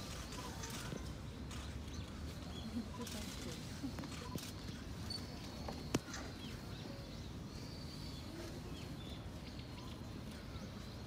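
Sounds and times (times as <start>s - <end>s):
outdoor background hum: 0.0s - 11.0s.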